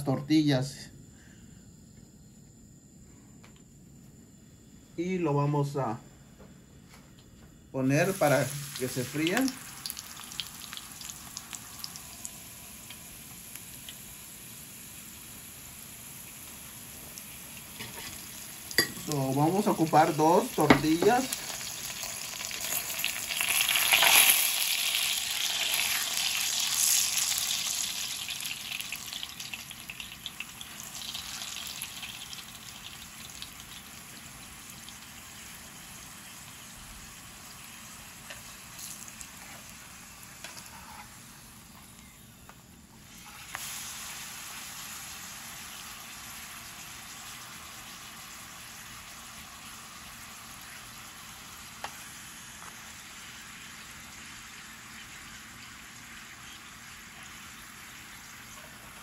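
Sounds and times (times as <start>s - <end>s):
tortilla sizzling in hot oil: 7.9s - 42.1s, 42.9s - 59.0s.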